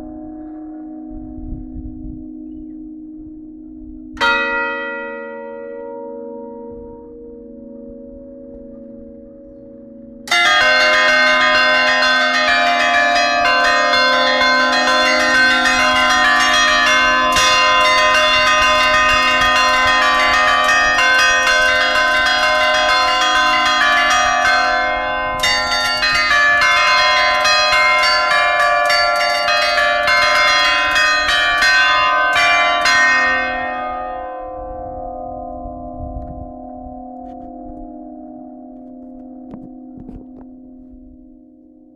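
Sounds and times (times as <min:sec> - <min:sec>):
church bells pealing: 0:00.0 - 0:41.9
low hum of bells: 0:00.0 - 0:41.9.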